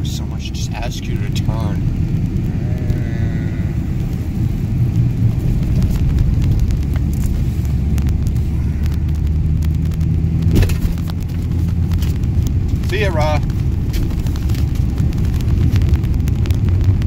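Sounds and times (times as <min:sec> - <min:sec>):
car driving on snow: 0:00.0 - 0:17.0.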